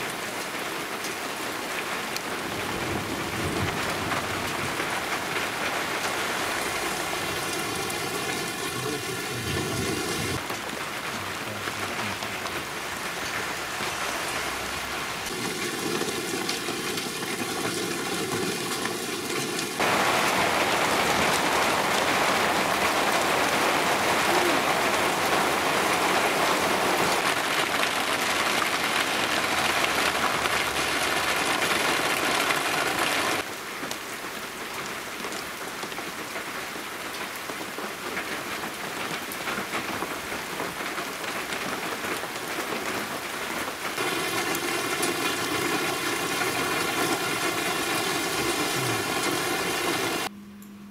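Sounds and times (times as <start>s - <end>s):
large-drop rain shower: 0.0s - 50.3s.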